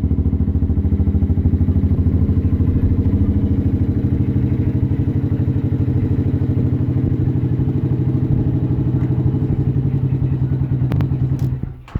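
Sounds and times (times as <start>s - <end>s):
motorcycle idling: 0.0s - 11.9s.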